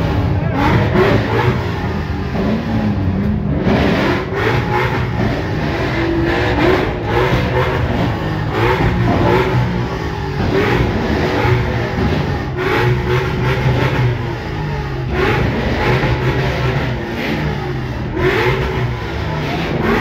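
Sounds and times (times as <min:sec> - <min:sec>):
car engines revving past: 0:00.0 - 0:20.0.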